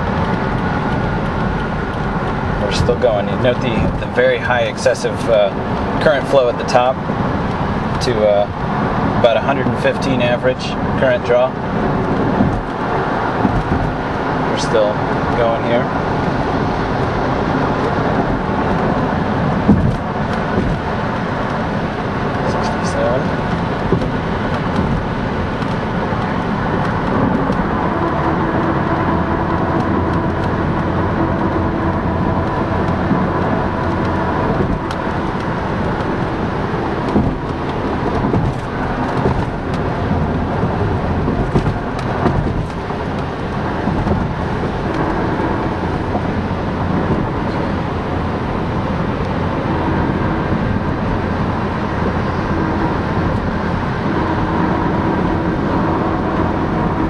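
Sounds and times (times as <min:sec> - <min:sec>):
road and wind noise in car: 0:00.0 - 0:57.0.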